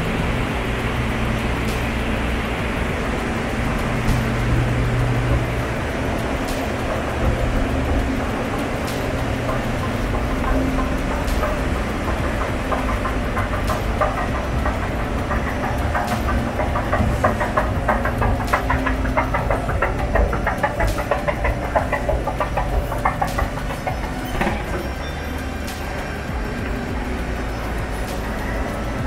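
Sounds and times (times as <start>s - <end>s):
escalator humming: 0.0s - 29.0s
fast rattling clicks: 0.0s - 29.0s.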